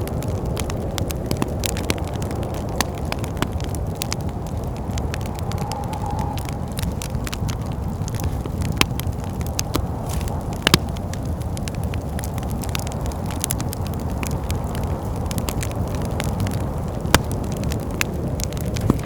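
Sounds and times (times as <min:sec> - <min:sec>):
low rush of wind: 0:00.0 - 0:19.0
wood fire crackling and popping: 0:00.0 - 0:19.0.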